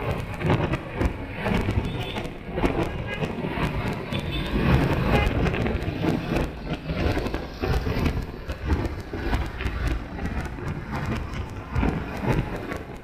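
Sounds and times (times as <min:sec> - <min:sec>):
car road noise rumble: 0:00.0 - 0:13.0
wind buffeting microphone: 0:00.0 - 0:13.0.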